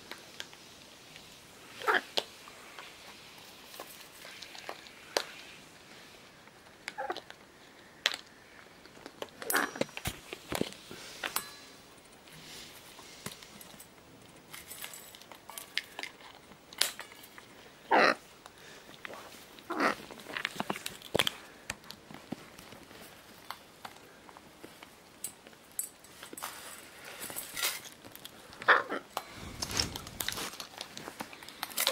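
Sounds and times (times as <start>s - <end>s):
parrots clicking and scraping: 1.2s - 5.6s, 6.4s - 17.7s, 18.4s - 31.9s.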